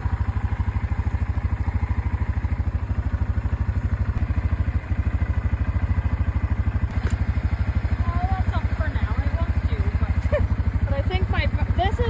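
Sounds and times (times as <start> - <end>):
atv engine running at low revs: 0.0 - 12.0.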